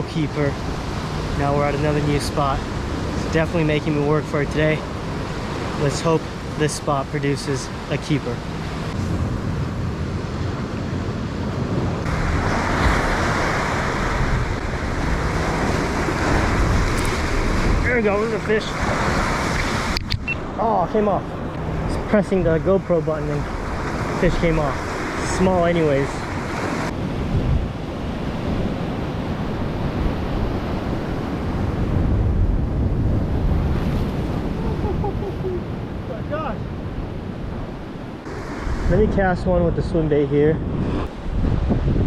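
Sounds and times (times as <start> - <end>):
ocean surf on rocks: 0.0 - 42.0
wind buffeting microphone: 7.6 - 42.0.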